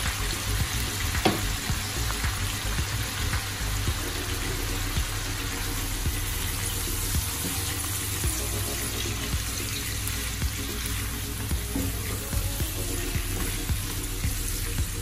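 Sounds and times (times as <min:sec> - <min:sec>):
meat sizzling in a pot: 0:00.0 - 0:15.0.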